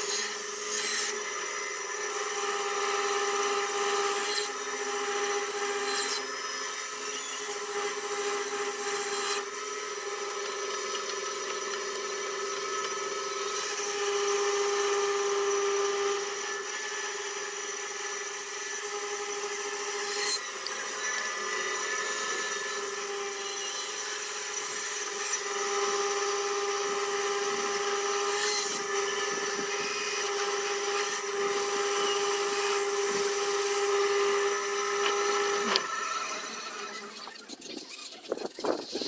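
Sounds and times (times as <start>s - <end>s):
rotary carving tool whining: 0.0s - 39.0s.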